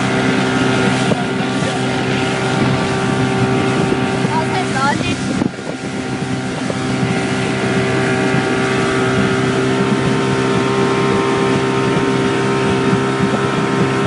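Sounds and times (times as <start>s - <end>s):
outboard engine running: 0.0s - 14.0s
wind on microphone: 0.0s - 14.0s.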